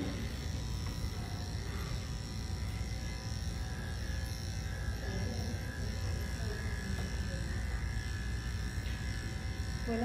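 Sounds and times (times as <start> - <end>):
electric clippers buzzing: 0.0 - 10.0.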